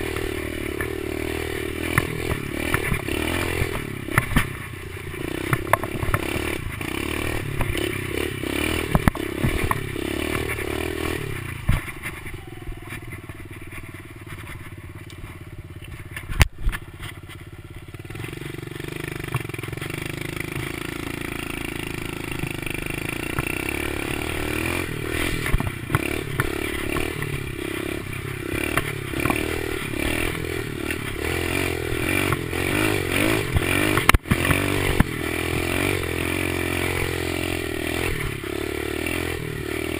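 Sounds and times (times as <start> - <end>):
dirt bike engine running: 0.0 - 39.9
clatter and knocks from bumps: 1.8 - 7.9, 8.6 - 12.3, 12.9 - 36.1.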